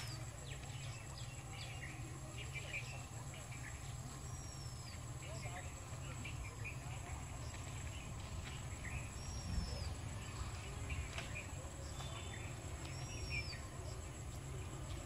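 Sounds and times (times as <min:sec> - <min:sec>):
birds chirping: 0:00.0 - 0:15.0
whistled calls: 0:00.0 - 0:15.0.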